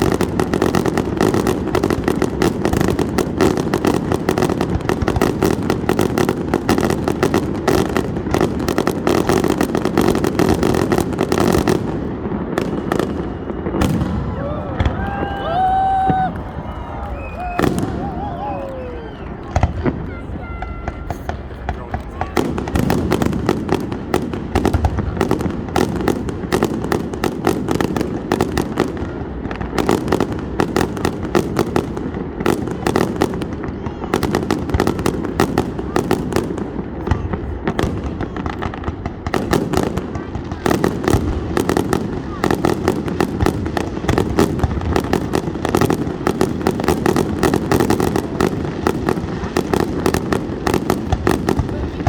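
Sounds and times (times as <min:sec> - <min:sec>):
fireworks cracks and pops: 0:00.0 - 0:52.0.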